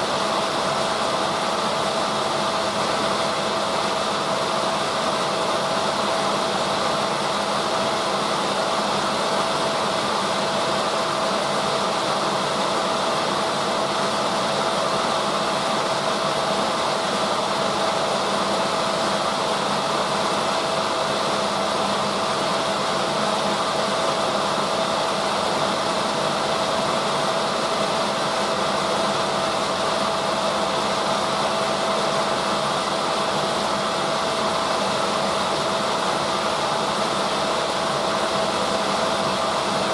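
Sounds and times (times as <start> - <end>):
washing machine whirring: 0.0 - 39.9.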